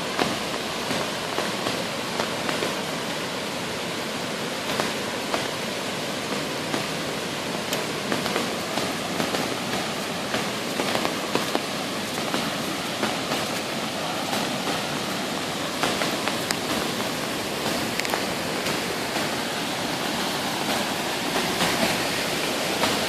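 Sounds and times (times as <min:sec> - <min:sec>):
creek rushing: 0:00.0 - 0:23.0.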